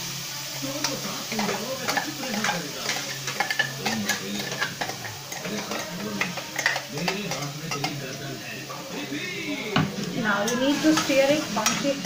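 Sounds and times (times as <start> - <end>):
light sizzle: 0.0 - 12.0.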